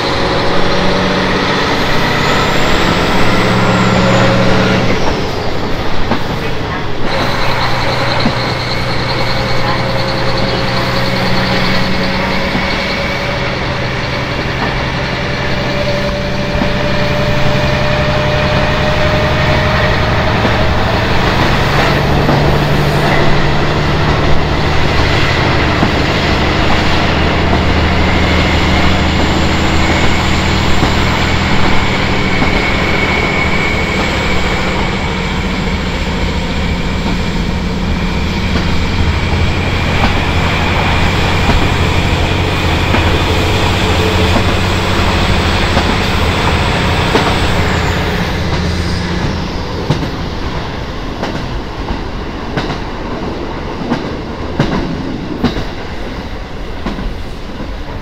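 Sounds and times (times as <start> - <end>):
diesel engine drone: 0.0 - 51.6
wheel and rail noise: 0.0 - 58.0.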